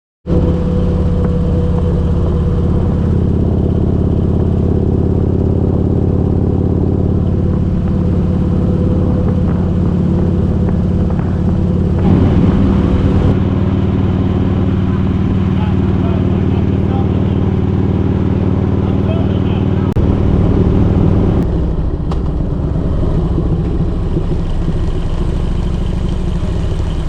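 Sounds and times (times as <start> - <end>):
engine-like hum: 0.2 - 27.0.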